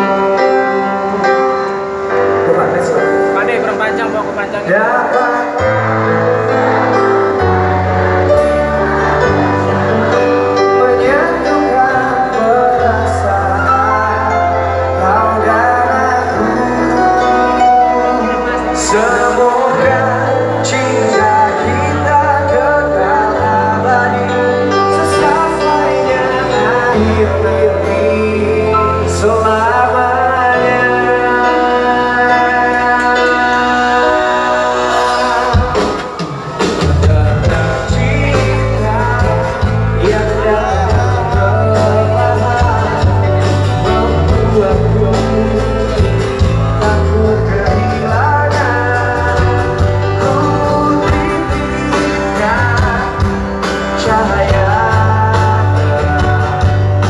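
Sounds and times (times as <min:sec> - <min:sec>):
live band music over pa: 0:00.0 - 0:57.0
long held bass notes: 0:00.0 - 0:57.0.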